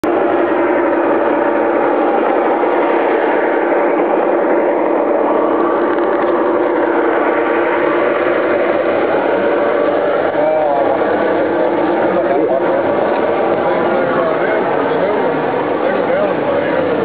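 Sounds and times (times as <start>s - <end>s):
model locomotives humming: 0.0s - 17.0s.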